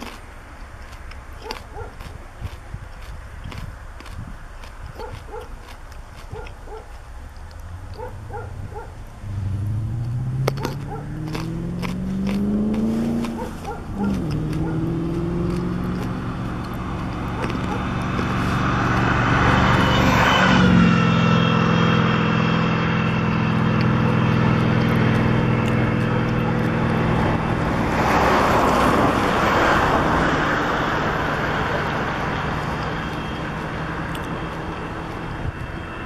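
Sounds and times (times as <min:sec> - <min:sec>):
ferry engine hum: 0:00.0 - 0:36.0.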